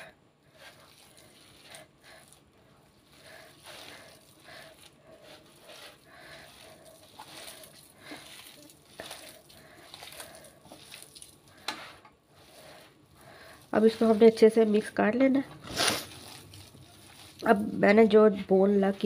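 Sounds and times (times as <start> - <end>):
hand squeezing shredded chicken: 0.0 - 17.7.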